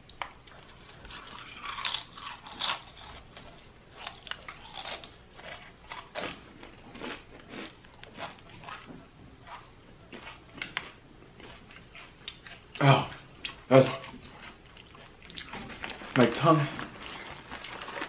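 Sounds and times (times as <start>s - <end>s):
crunching and chewing chips: 0.0s - 18.0s.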